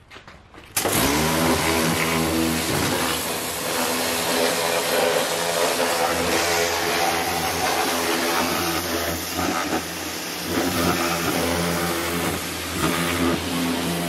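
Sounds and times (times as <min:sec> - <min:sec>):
pressure washer pump hum: 0:00.7 - 0:14.0
water jet hissing: 0:01.5 - 0:14.0.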